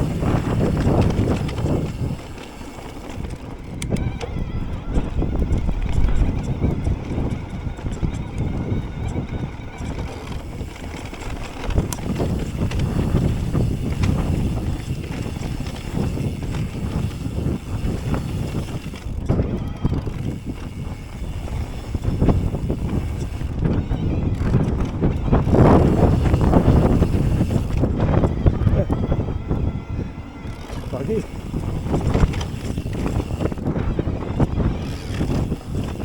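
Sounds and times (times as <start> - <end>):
tyres rumbling on dirt: 0.0 - 8.4, 9.8 - 28.5, 30.4 - 36.0
bike knocking and rattling: 0.0 - 36.0
wind buffeting microphone: 0.0 - 36.0.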